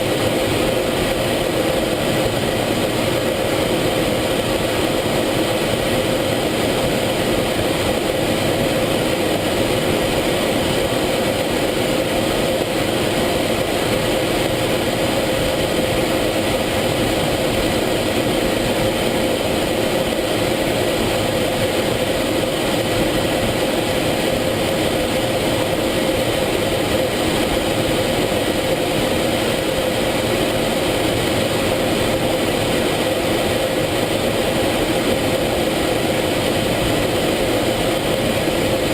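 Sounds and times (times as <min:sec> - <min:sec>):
constant hum: 0:00.0 - 0:38.9
jet engine drone: 0:00.0 - 0:38.9.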